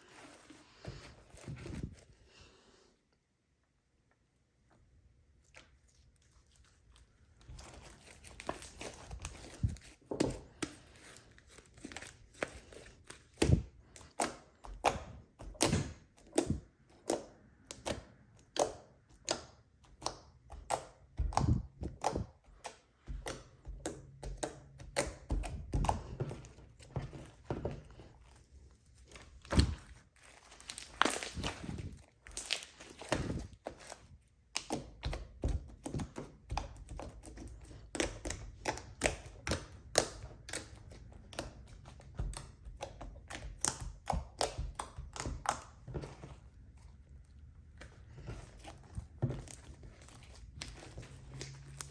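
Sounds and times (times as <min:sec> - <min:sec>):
slime squished by hand: 0:05.2 - 0:51.9.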